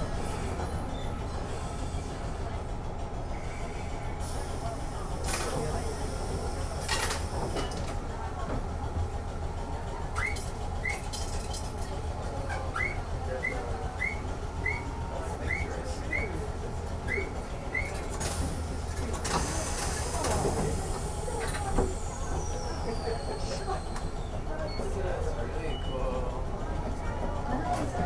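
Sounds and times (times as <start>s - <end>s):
tram running on rails: 0.0s - 28.0s.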